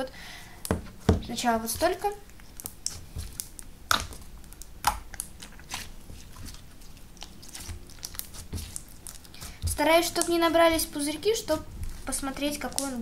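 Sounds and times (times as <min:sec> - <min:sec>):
slime kneaded with wet pops: 0:00.6 - 0:13.0.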